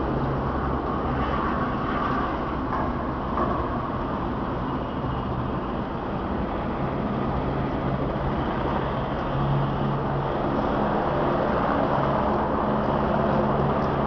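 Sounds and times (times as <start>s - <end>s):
engine droning hum: 0.0s - 14.0s.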